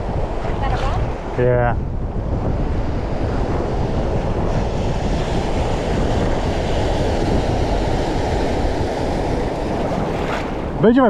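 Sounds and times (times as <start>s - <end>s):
choppy ocean waves: 0.0s - 11.0s
wind rumbling on microphone: 0.0s - 11.0s.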